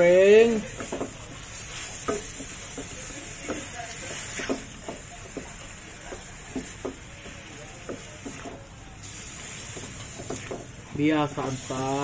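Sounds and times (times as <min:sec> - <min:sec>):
hot oil sizzling: 0:00.0 - 0:12.0
wooden spatula scraping wok: 0:00.0 - 0:12.0.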